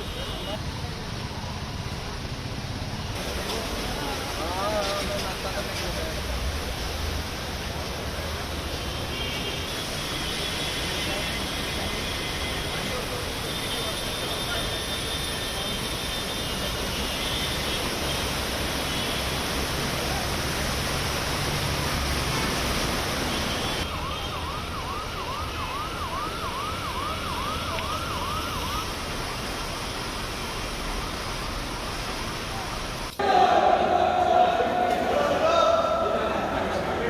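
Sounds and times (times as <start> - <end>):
steady background noise: 0.0 - 37.0.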